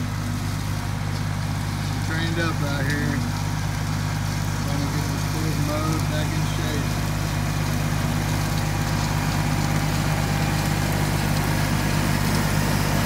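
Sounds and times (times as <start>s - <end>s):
rotary cutter mowing dry grass: 0.0s - 13.0s
tractor diesel engine running: 0.0s - 13.0s.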